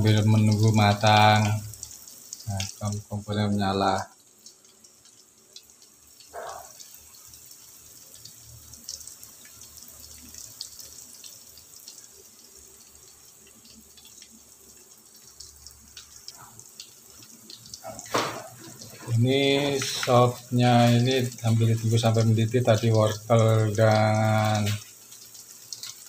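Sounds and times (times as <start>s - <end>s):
soup bubbling in a pot: 0.0s - 3.2s, 3.8s - 26.0s.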